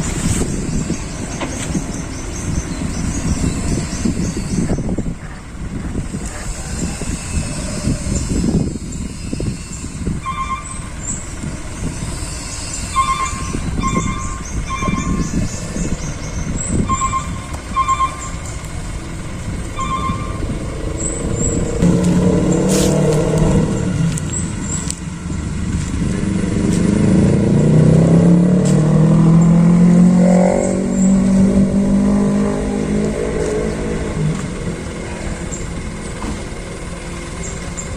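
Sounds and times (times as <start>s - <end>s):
dump truck engine revving under load: 0.0s - 37.9s.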